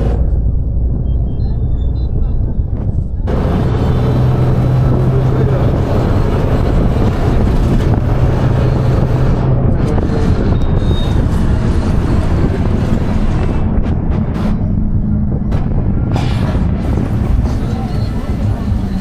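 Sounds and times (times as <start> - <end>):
steady low hum: 0.0 - 19.0
vehicle running: 0.0 - 19.0
wind rushing over microphone: 0.0 - 19.0.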